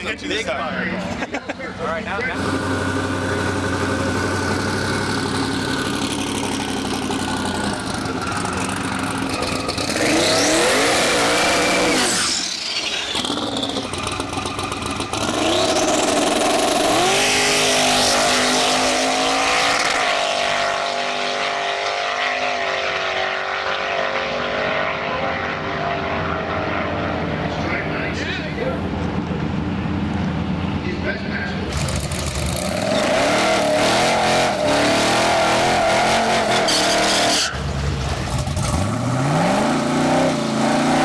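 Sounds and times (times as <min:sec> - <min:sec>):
car engine accelerating hard: 0:02.3 - 0:27.8, 0:31.6 - 0:41.0.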